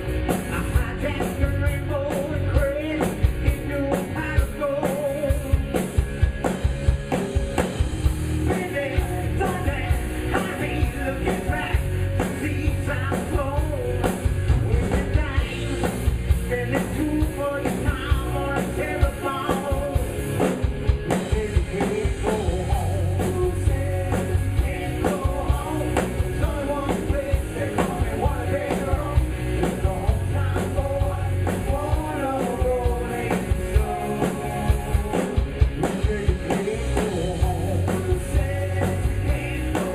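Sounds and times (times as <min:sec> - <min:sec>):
drum beat: 0:00.0 - 0:39.9
live rock band: 0:00.0 - 0:39.9
person singing: 0:00.5 - 0:05.8, 0:08.5 - 0:20.2, 0:21.1 - 0:39.9.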